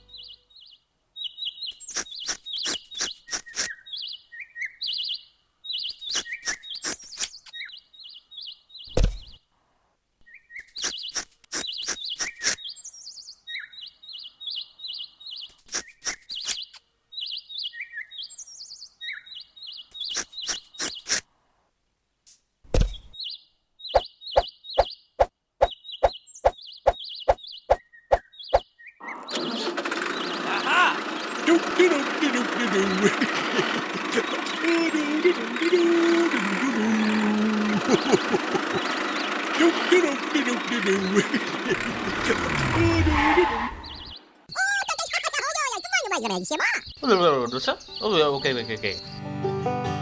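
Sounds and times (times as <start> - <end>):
small birds chirping: 0.0 - 9.6, 10.2 - 21.3, 22.8 - 31.5, 33.9 - 42.3, 43.8 - 49.2.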